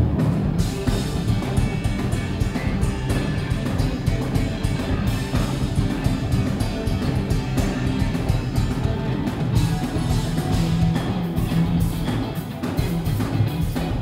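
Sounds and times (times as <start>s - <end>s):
bass guitar: 0.0s - 14.0s
drum kit: 0.0s - 14.0s
electric guitar: 0.0s - 14.0s.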